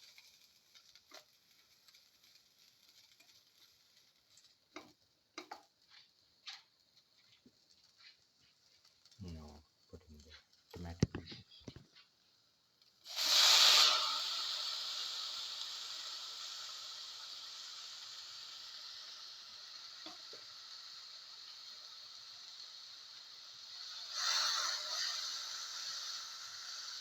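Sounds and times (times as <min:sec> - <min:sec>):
tomatoes sizzling in a pan: 0:00.0 - 0:27.0.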